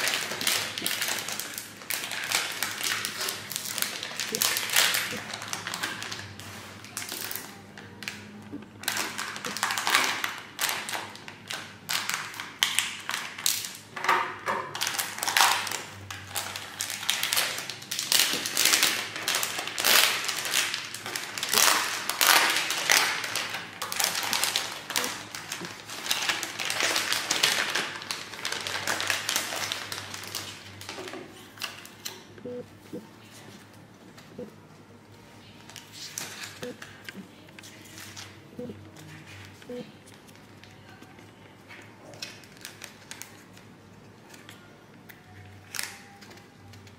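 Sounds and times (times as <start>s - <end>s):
plastic packaging crinkling: 0.0s - 13.8s, 14.7s - 31.9s, 35.5s - 46.9s.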